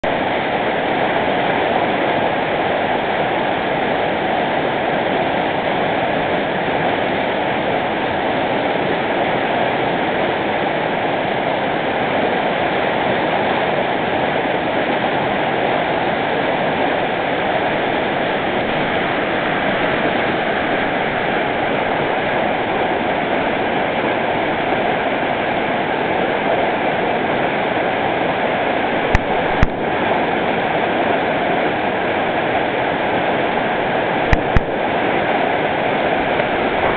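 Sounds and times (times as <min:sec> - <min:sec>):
rapids rushing over boulders: 0:00.0 - 0:36.9.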